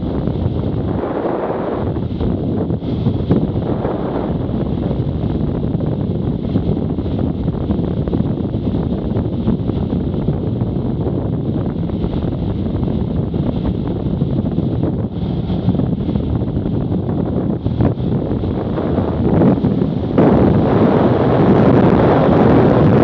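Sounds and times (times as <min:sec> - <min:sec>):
wind rush over microphone: 0:00.0 - 0:23.0.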